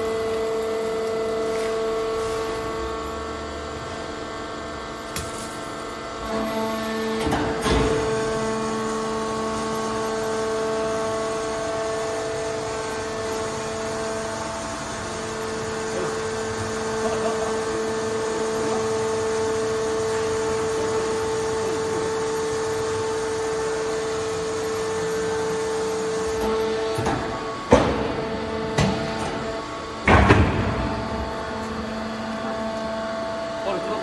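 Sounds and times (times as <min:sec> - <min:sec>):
hydraulic power unit humming: 0:00.0 - 0:34.0.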